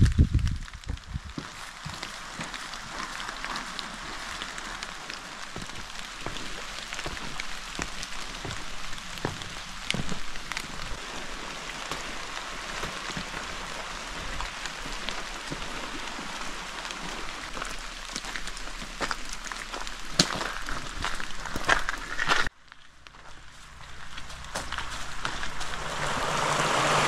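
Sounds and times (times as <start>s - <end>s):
running water hissing: 1.2s - 22.5s, 23.6s - 27.0s.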